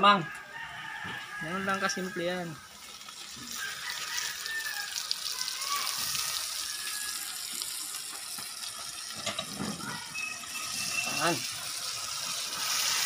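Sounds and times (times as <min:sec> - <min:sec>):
hot oil sizzling in a wok: 0:01.1 - 0:13.0.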